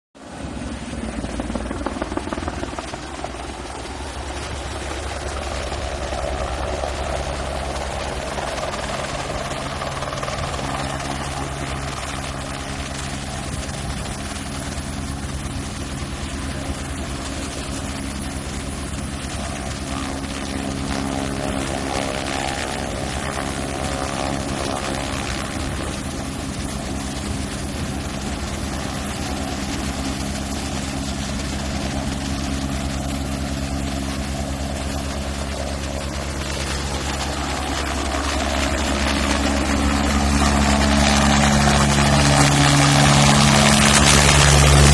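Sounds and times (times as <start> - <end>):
helicopter engine and rotor drone: 0.2 - 44.9.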